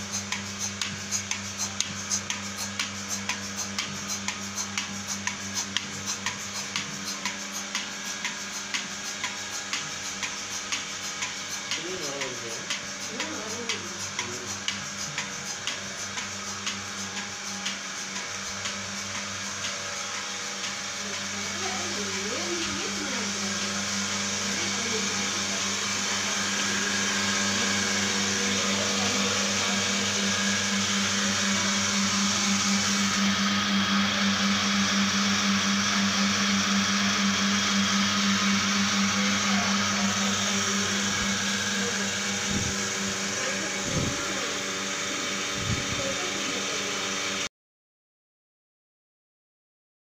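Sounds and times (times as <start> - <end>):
vacuum pump machine hum: 0.0 - 47.5.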